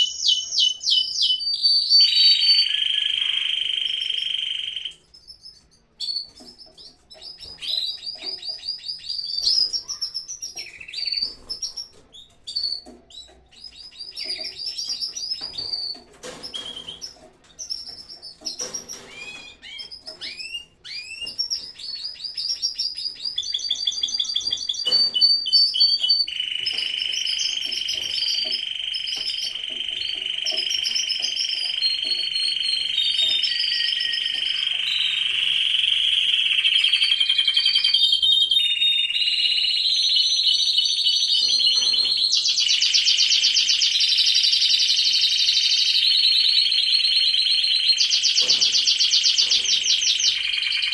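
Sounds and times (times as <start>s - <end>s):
canaries chirping and trilling: 0.0s - 50.9s.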